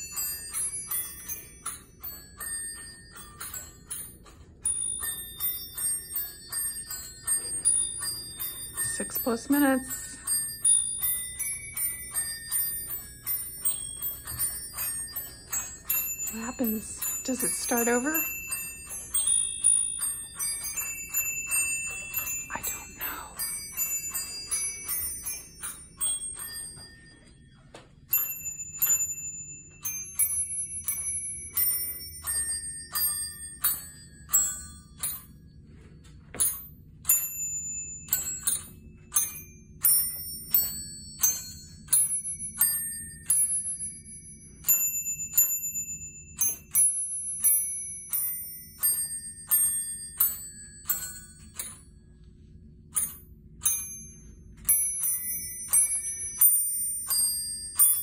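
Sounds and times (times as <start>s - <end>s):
small bells playing a melody: 0.0s - 58.0s.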